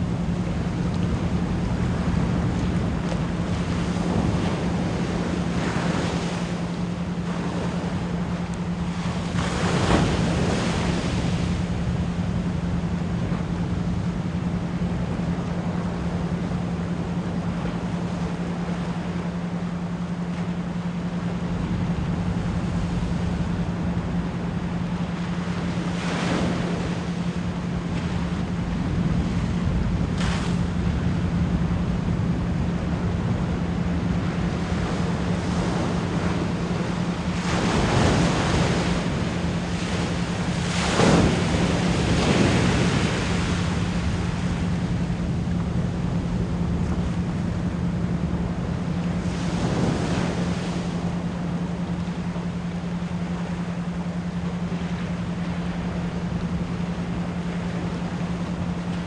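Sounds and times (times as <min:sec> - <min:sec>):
ocean waves breaking: 0:00.0 - 0:59.0
pulsed low pure tone: 0:00.0 - 0:59.0.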